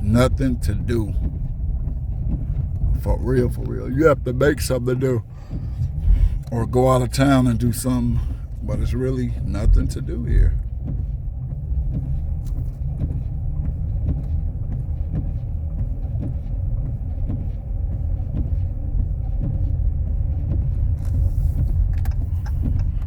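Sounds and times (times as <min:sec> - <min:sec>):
car driving heard from cabin: 0:00.0 - 0:23.0.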